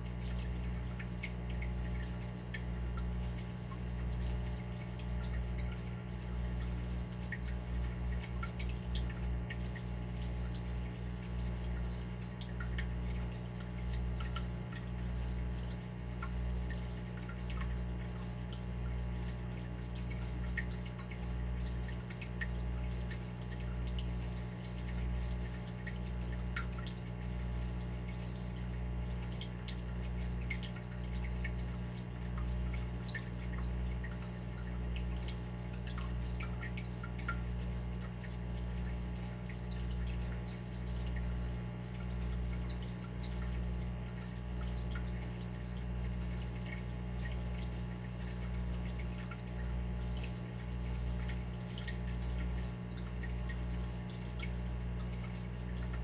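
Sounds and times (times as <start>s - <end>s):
water dripping: 0.0s - 56.0s.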